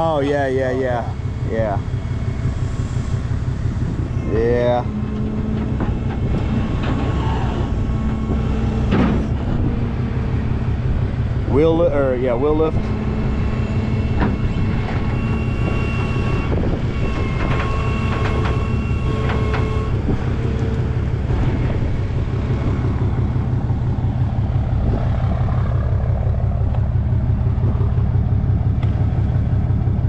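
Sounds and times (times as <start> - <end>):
hydraulic whine: 0.0 - 30.0
truck engine rumbling: 0.0 - 30.0.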